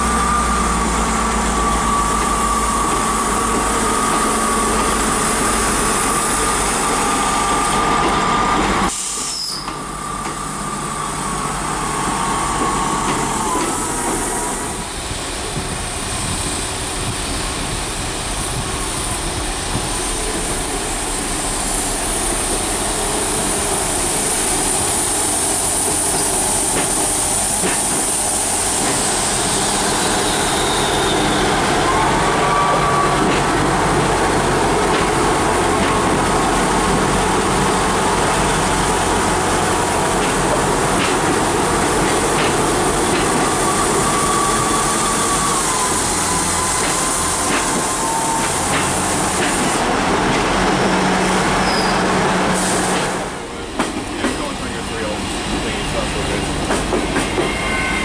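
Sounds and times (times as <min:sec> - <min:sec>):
train rumble: 0:00.0 - 0:58.0
train whine: 0:00.0 - 0:58.0.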